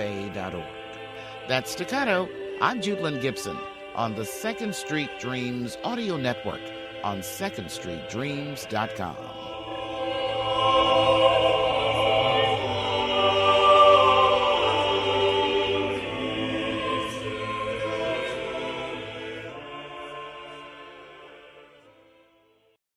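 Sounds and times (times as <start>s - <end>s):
choir singing sustained chords: 0.0s - 22.8s.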